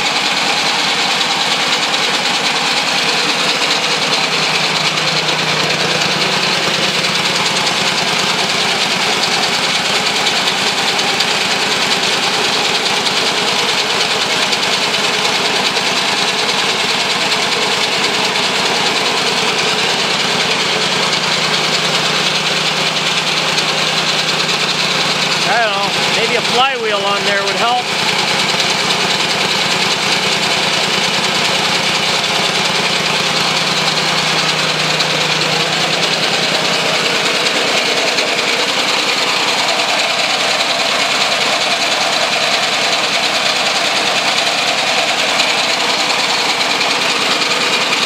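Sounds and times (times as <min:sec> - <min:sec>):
three-cylinder engine running: 0:00.0 - 0:48.0.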